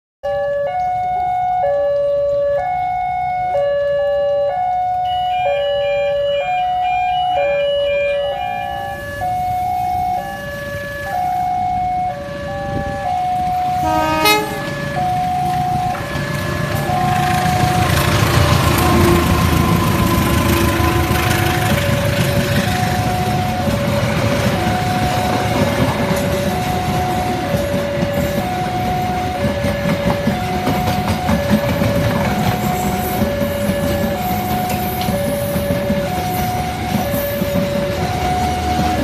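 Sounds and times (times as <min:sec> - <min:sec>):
two-tone crossing warning alarm: 0:00.2 - 0:39.0
train rumble and rail clatter: 0:00.6 - 0:39.0.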